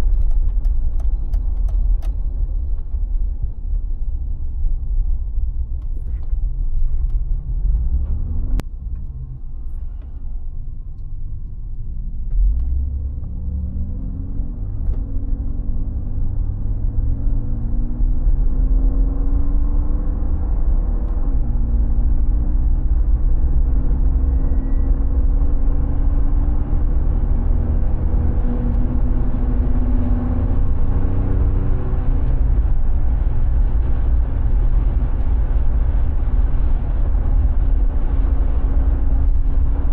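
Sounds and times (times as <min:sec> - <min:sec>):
car engine accelerating through gears: 0:05.8 - 0:39.9.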